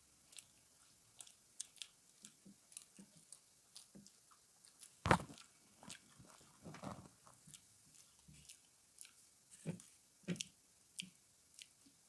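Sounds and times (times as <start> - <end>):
people chewing pizza: 0.0 - 12.0.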